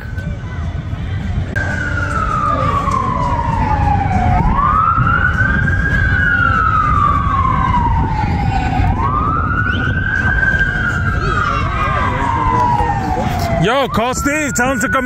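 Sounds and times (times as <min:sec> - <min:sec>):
emergency siren wailing: 0:01.3 - 0:15.0.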